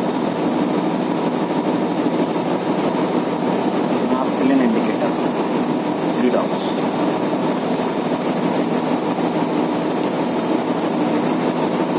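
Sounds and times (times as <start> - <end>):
ship machinery drone: 0.0 - 11.9.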